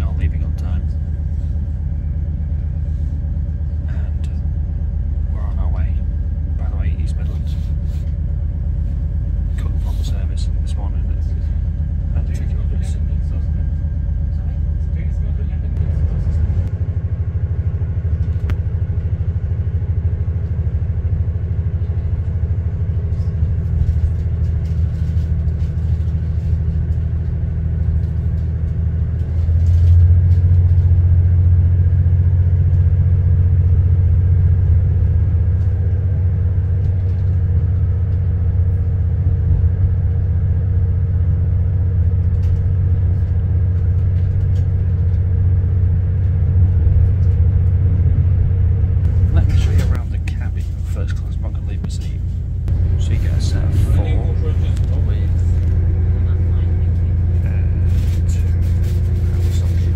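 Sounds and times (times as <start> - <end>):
steady hum: 0.0 - 37.1, 37.7 - 59.9
train engine rumble: 0.0 - 59.9.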